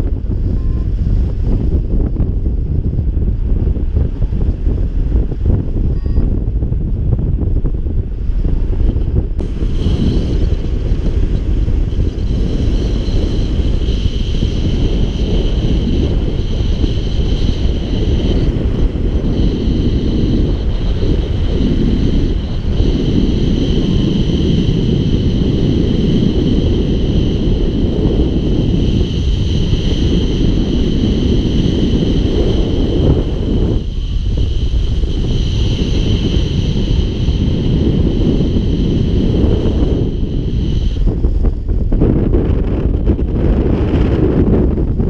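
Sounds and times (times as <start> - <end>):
wind noise on microphone: 0.0 - 45.0.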